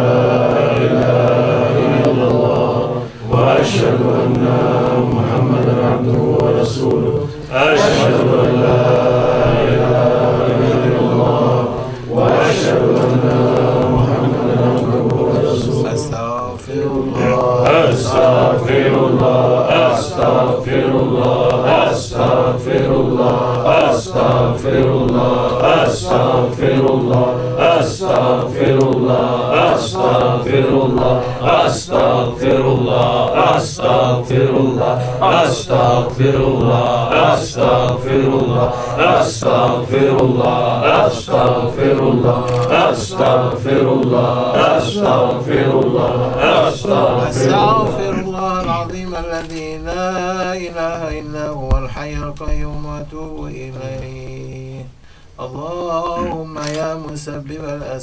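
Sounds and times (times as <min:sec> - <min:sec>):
voices chanting in rhythm: 0:00.0 - 0:58.0.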